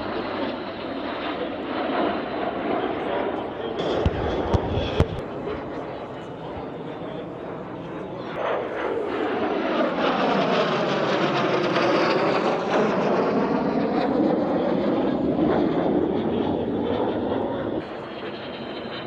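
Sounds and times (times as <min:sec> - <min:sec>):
jet aircraft flying past: 0:00.0 - 0:19.0.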